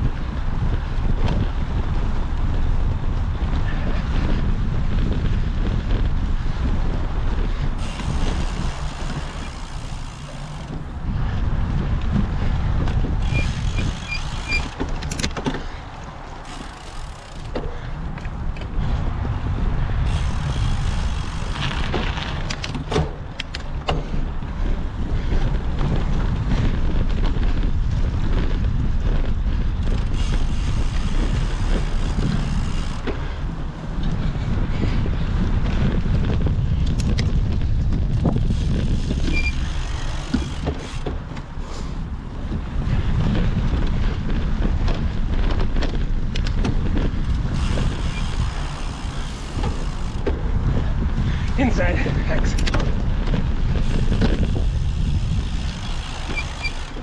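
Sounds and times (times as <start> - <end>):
bike rattles and knocks: 0.0 - 57.0
wind buffeting microphone: 0.0 - 57.0.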